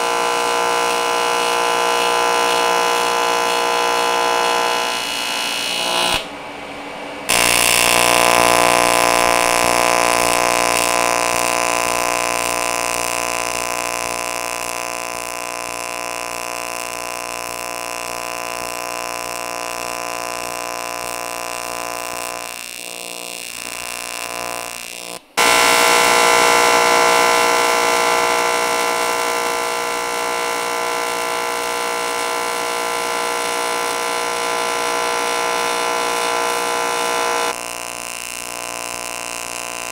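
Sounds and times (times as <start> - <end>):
welding arc buzzing: 0.0 - 6.3, 7.3 - 39.9.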